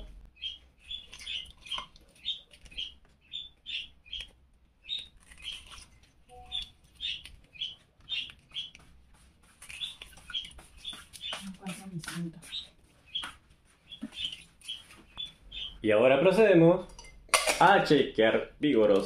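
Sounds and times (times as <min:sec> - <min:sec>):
small bird chirping: 0:00.0 - 0:08.9, 0:09.5 - 0:15.8.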